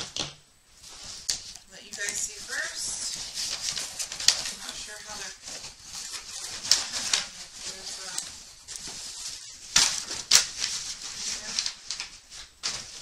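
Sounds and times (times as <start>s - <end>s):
sharp crackles: 0.0s - 13.0s.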